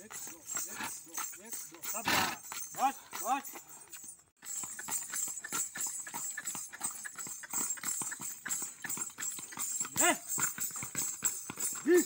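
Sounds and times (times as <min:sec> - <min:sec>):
horse hooves stamping on dirt: 0:00.0 - 0:12.0.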